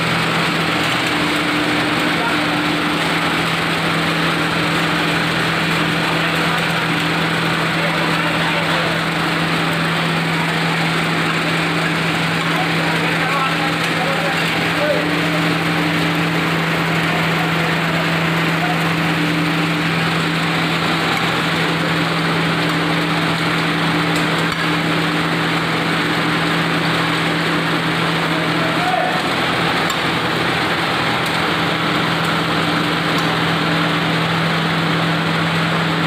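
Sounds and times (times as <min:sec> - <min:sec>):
grinding machine humming and whirring: 0:00.0 - 0:36.0.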